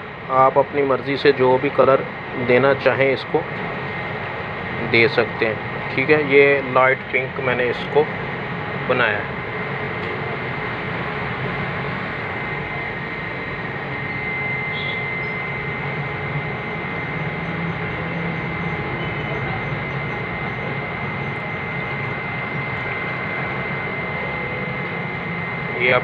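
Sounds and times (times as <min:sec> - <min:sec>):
mechanical whir with high whine: 0:00.0 - 0:26.0.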